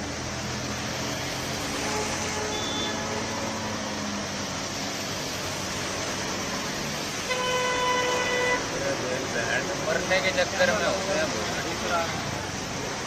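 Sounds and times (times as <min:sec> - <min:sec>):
heavy rain hiss: 0:00.0 - 0:13.0
traffic on wet street: 0:00.0 - 0:13.0.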